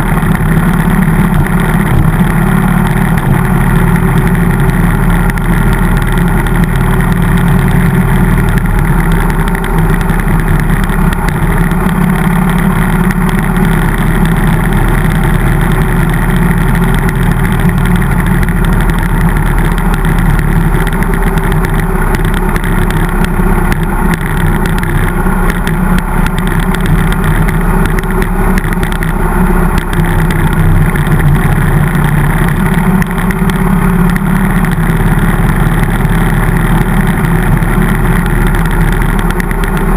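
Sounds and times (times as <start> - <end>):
motorcycle engine cruising: 0.0 - 39.9
road noise: 0.0 - 39.9.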